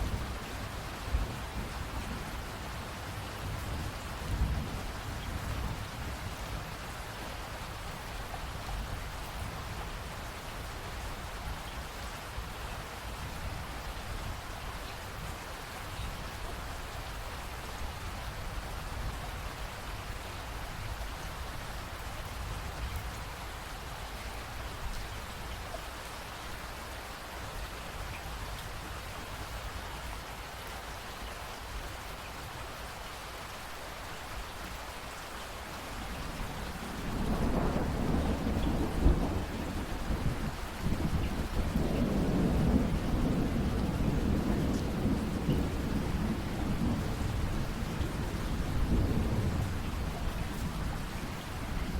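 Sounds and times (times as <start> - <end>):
steady rainfall: 0.0 - 51.9.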